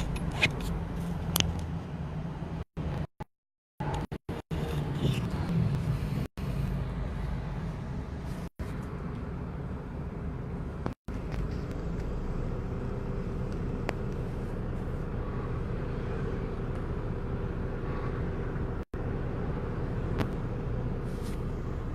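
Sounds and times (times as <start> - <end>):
road noise: 0.0 - 3.2, 3.8 - 21.9
traffic engine rumble: 0.0 - 3.2, 3.8 - 21.9.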